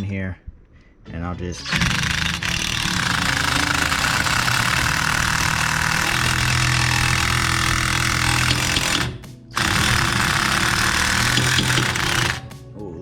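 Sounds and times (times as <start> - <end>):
power tool driving bolt: 1.6 - 12.5.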